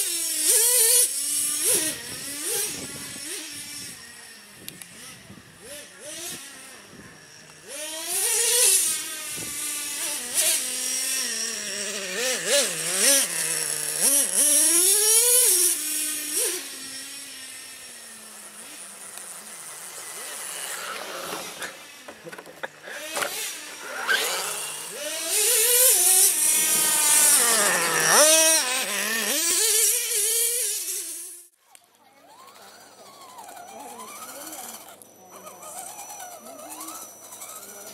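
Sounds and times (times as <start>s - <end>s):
toy truck motor revving: 0.0s - 37.9s.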